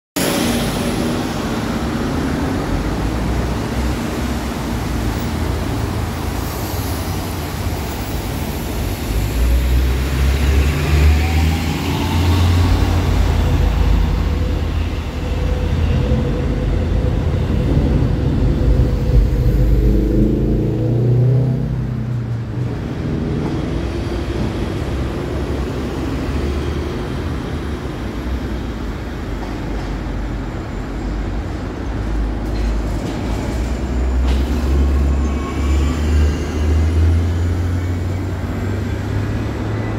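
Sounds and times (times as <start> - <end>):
street traffic: 0.2 - 39.9.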